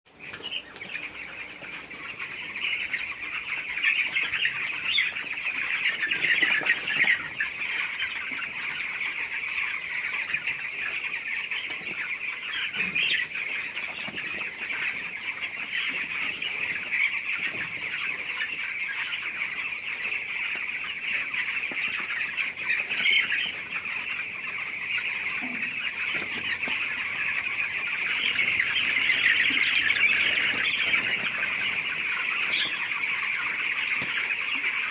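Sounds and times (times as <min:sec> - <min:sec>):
chickens peeping and chirping: 0:00.1 - 0:34.9.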